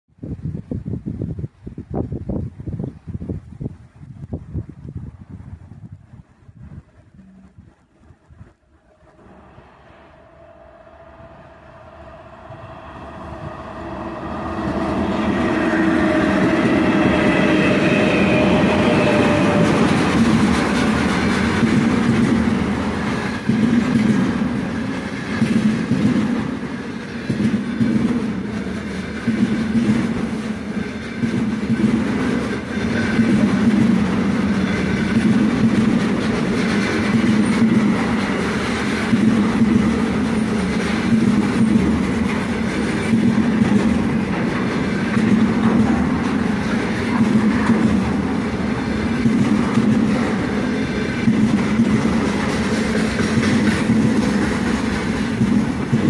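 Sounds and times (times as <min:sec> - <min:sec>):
electric locomotive whine: 0:06.8 - 0:56.0
freight wagons rumbling: 0:06.9 - 0:56.0
wheels clattering on rails: 0:07.2 - 0:56.0.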